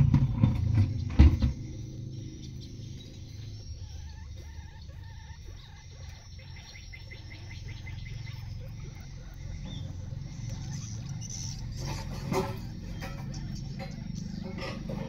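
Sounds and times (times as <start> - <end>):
steady low hum: 0.0 - 15.0
guinea pig chewing greens: 0.9 - 15.0.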